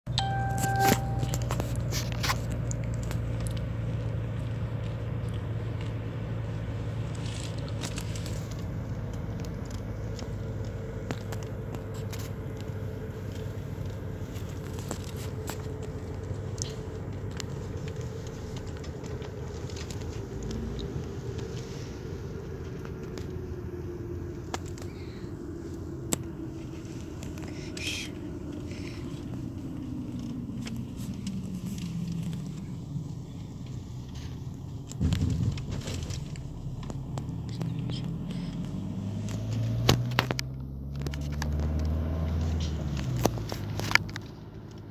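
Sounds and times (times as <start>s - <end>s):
car interior rumble: 0.1s - 44.9s.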